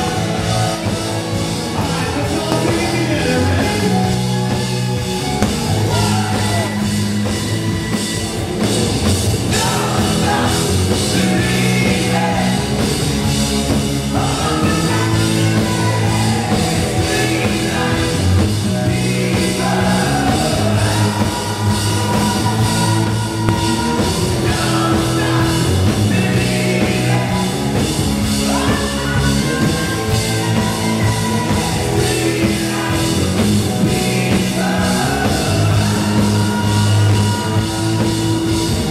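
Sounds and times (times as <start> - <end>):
drum kit: 0.0 - 38.9
electric guitars: 0.0 - 38.9
rock band playing loudly: 0.0 - 38.9
lead singer singing: 1.7 - 7.2, 9.5 - 38.8.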